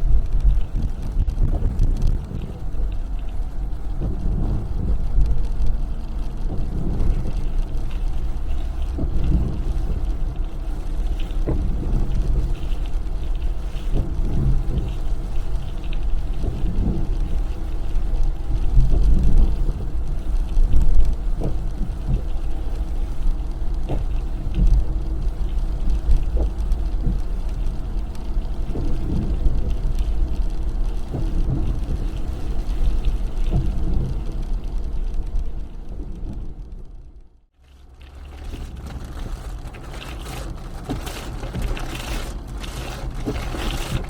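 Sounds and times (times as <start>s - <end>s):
car engine and tyres rumbling: 0.0s - 44.0s.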